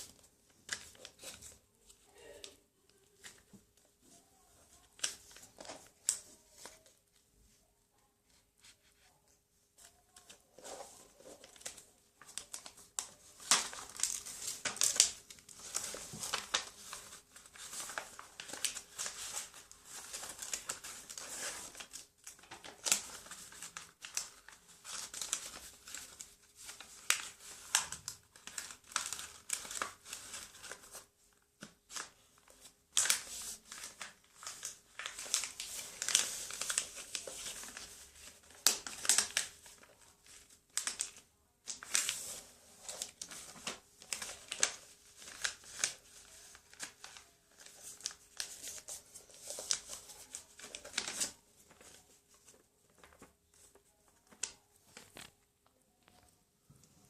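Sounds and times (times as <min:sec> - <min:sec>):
paper rustling and crinkling: 0:00.0 - 0:07.6, 0:08.2 - 0:57.0.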